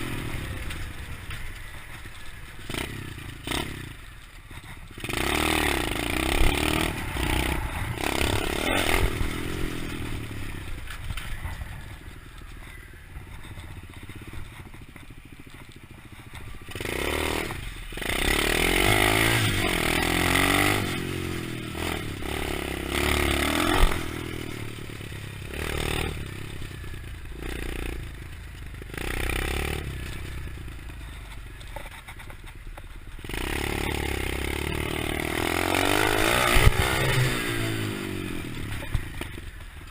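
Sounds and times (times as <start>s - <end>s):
motorbike engine revving: 0.0s - 32.2s, 33.1s - 39.9s
knocks and rattles from bike: 0.0s - 39.9s.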